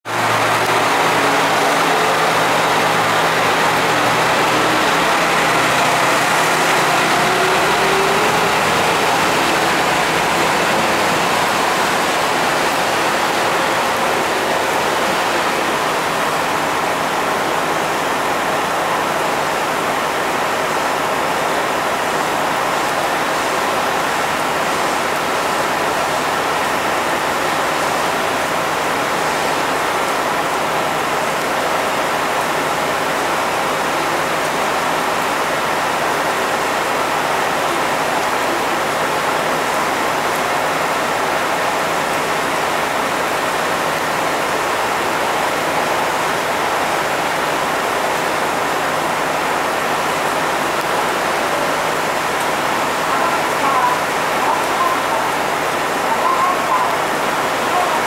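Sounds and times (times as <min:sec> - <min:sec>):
heavy rain hissing: 0:00.0 - 0:58.0
railcar diesel engine: 0:00.1 - 0:58.0.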